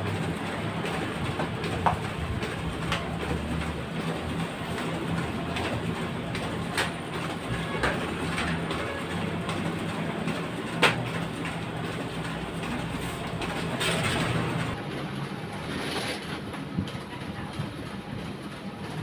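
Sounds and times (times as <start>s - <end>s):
paper feeding clatter: 0.0s - 19.0s
photocopier humming: 0.0s - 19.0s.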